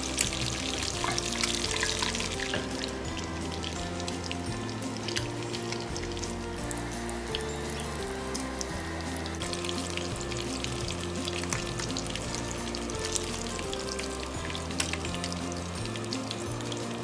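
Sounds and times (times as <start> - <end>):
background music: 0.0 - 17.0
deep-frying in hot oil: 0.0 - 17.0.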